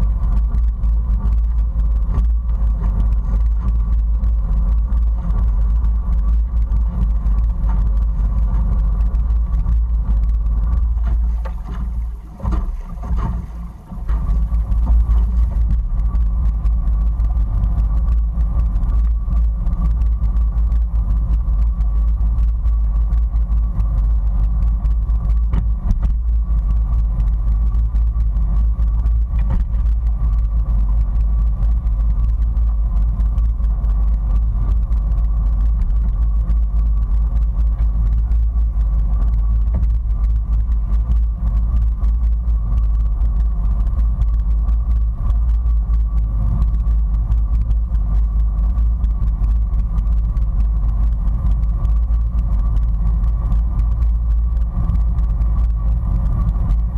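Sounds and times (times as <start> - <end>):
watercraft engine idling: 0.0 - 56.9
wind buffeting microphone: 0.0 - 56.9.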